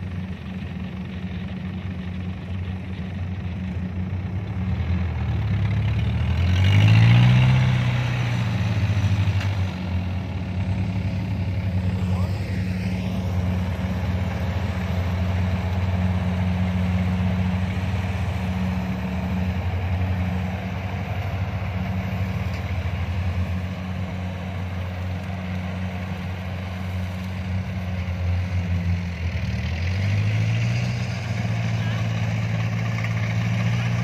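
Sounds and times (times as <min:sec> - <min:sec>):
combine harvester diesel engine hum: 0:00.0 - 0:34.0.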